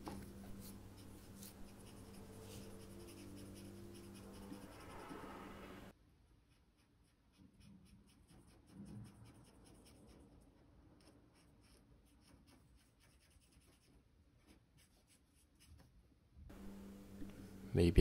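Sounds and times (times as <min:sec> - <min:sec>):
pen scratching on paper: 0:00.0 - 0:05.7, 0:06.5 - 0:15.9.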